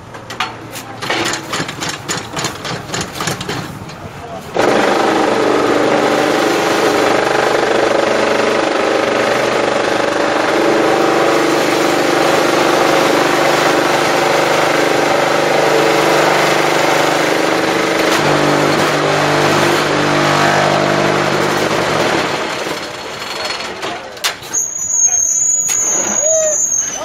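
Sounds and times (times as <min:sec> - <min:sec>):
brick-making machine droning: 0:00.0 - 0:27.0.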